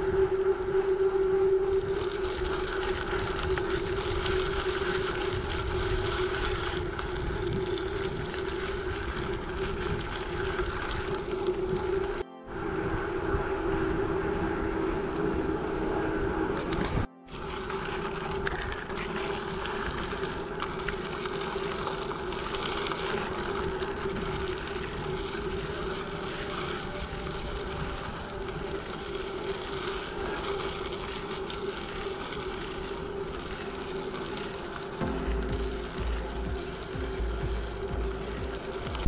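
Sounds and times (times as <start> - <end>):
bicycle tyres rolling on gravel: 0.0 - 39.0
wind on microphone: 0.0 - 39.0.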